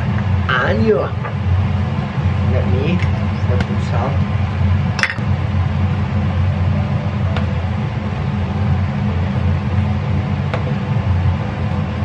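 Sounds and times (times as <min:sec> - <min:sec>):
loud low appliance hum: 0:00.0 - 0:12.0.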